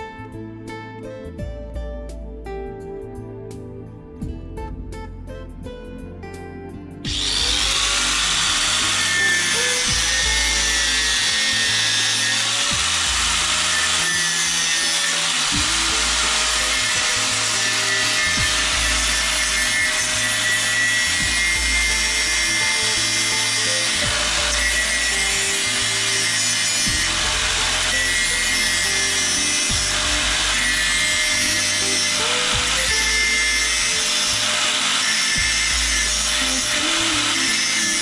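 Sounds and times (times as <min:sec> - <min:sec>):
angle grinder cutting steel: 0:07.0 - 0:38.0.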